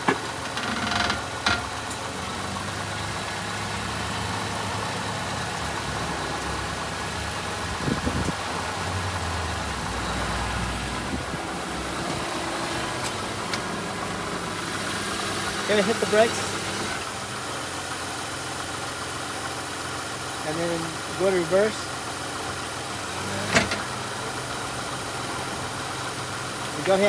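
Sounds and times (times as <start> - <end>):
car engine idling hum: 0.0 - 27.0.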